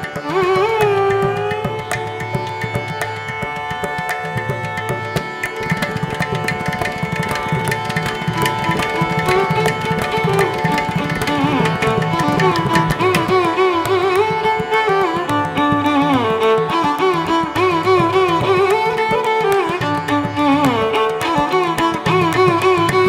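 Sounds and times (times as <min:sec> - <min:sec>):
tabla drumming: 0:00.0 - 0:23.0.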